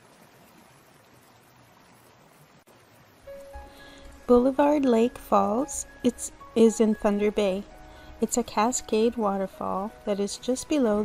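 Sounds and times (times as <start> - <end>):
faint rush of falling water: 0.0 - 11.0.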